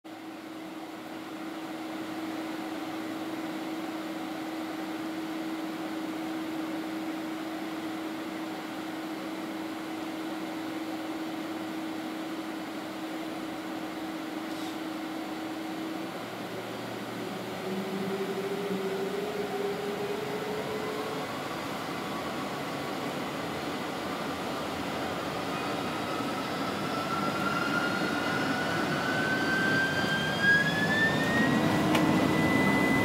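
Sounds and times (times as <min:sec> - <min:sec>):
aircraft cabin engine drone: 0:00.1 - 0:33.0.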